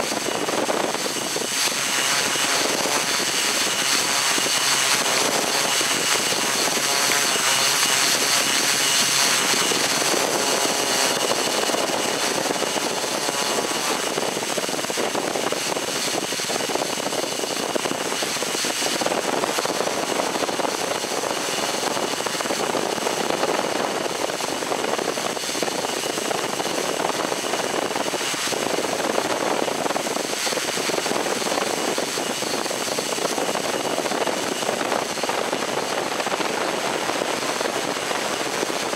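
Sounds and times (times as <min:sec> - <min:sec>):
drone propellers rushing: 0:00.0 - 0:38.9
high motor whine: 0:00.0 - 0:38.9.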